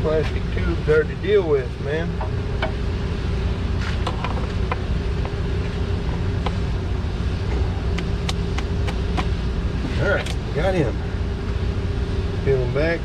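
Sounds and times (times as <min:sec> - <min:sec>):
faint constant hum: 0:00.0 - 0:13.0
low mechanical rumble: 0:00.0 - 0:13.0.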